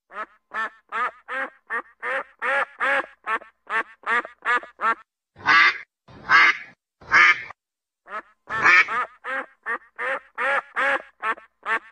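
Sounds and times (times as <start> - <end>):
ducks quacking: 0.1 - 11.9.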